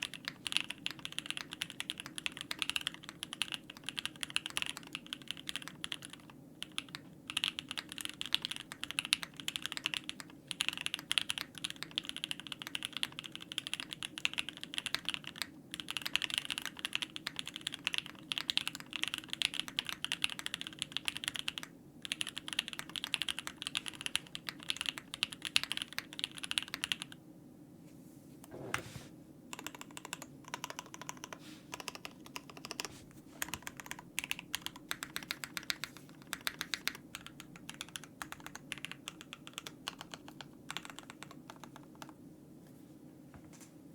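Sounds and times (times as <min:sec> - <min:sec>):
fast mechanical keyboard typing: 0:00.0 - 0:27.2, 0:29.5 - 0:42.2.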